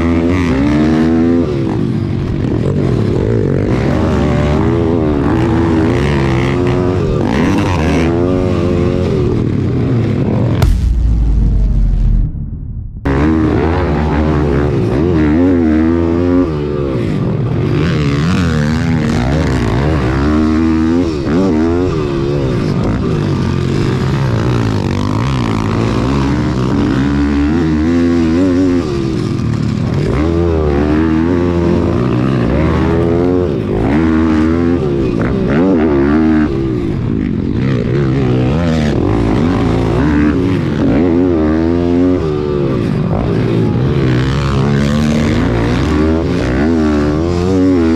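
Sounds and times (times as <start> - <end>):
pit bike engine revving: 0.0 - 10.8, 13.0 - 47.9.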